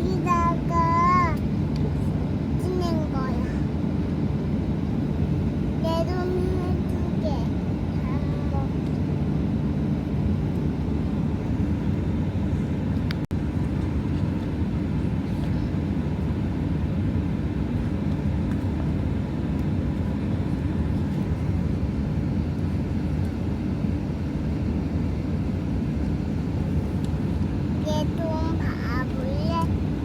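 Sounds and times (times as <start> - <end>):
airliner cabin drone: 0.0 - 30.0.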